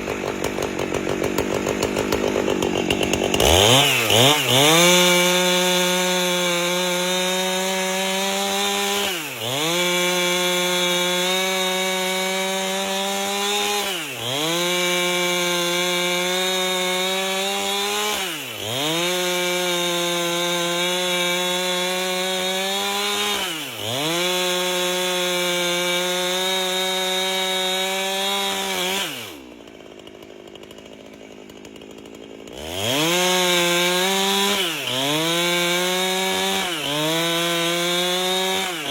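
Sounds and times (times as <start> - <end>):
chainsaw ripping log: 0.0 - 38.9.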